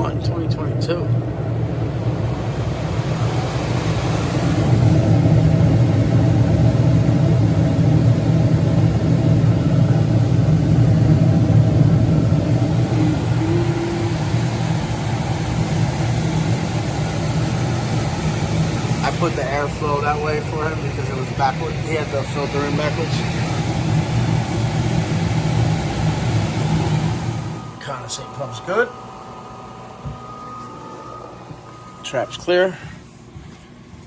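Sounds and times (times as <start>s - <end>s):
blower fan rushing air: 0.0s - 34.0s
furnace humming: 0.0s - 34.0s.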